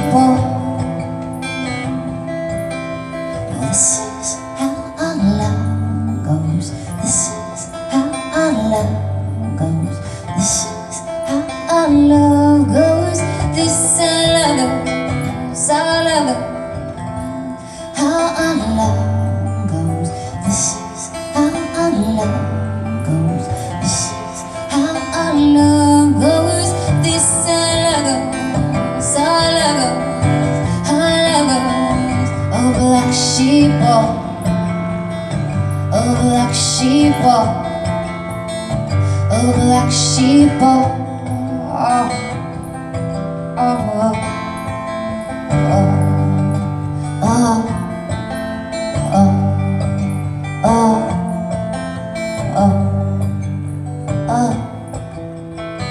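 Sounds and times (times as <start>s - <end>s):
acoustic guitar strumming: 0.0s - 55.9s
woman singing: 0.0s - 55.9s.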